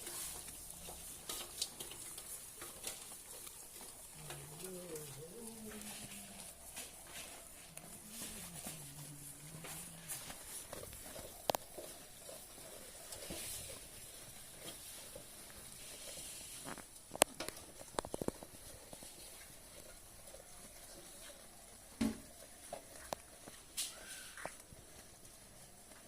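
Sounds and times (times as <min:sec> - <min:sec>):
goat chewing grass: 0:00.0 - 0:26.0.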